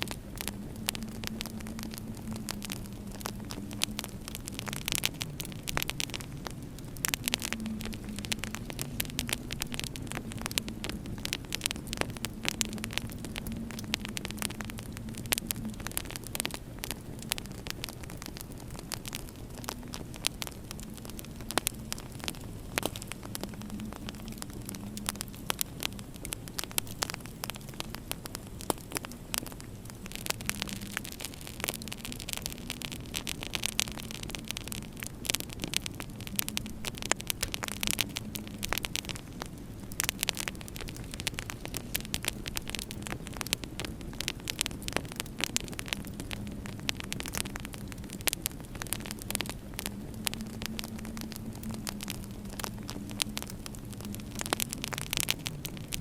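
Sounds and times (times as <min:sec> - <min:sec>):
steady low hum: 0:00.0 - 0:56.0
wood fire crackling: 0:00.0 - 0:56.0.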